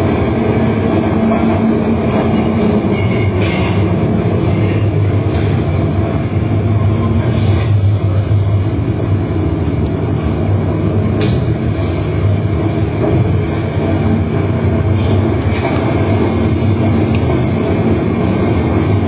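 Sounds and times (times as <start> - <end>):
loud rumble with low drone: 0.0 - 19.0.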